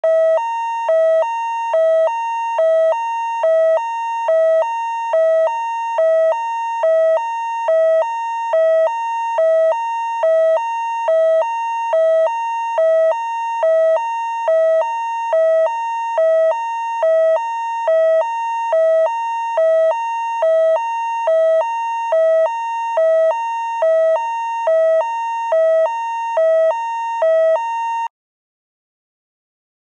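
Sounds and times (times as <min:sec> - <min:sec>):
two-tone fire engine siren: 0:00.0 - 0:28.1.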